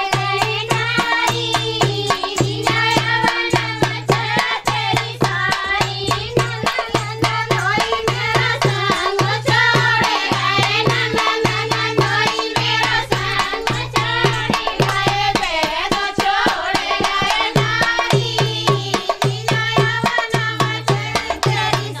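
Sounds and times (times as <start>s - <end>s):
hand drums fast beat: 0.0s - 22.0s.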